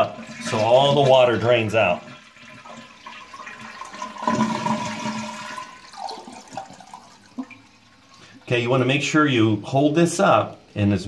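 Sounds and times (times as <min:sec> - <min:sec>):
toilet flushing: 0:00.0 - 0:09.2.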